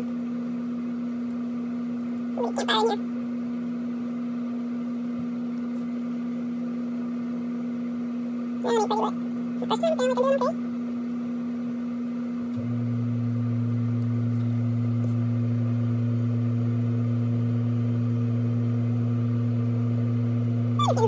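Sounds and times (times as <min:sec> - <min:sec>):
lower hum: 0:00.0 - 0:21.0
machine humming: 0:00.0 - 0:21.0.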